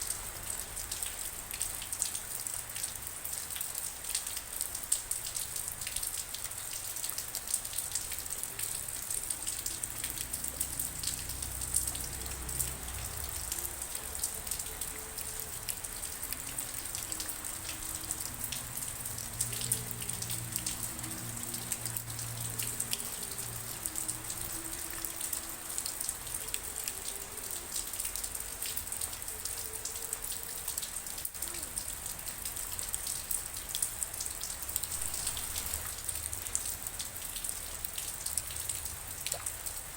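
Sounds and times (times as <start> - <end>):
raindrops pattering on a surface: 0.0 - 39.9.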